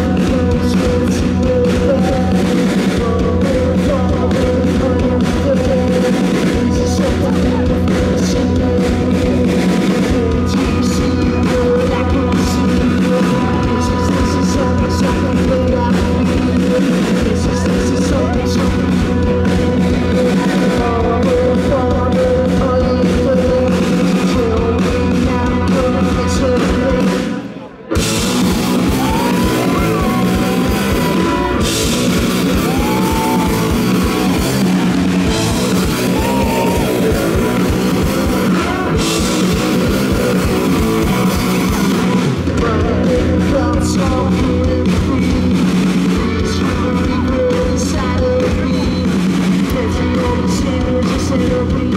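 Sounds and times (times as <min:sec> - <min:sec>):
bass guitar: 0:00.0 - 0:51.9
distorted electric guitar: 0:00.0 - 0:51.9
drum kit: 0:00.0 - 0:51.9
person singing: 0:00.0 - 0:51.9.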